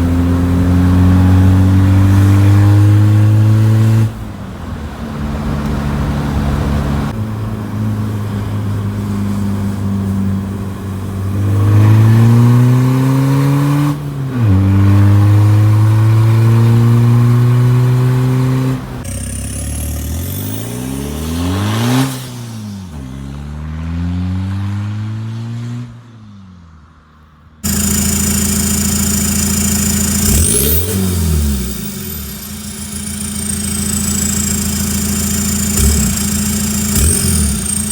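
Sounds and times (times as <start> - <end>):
car engine revving: 0.0 - 9.8, 10.4 - 25.8, 27.6 - 37.9.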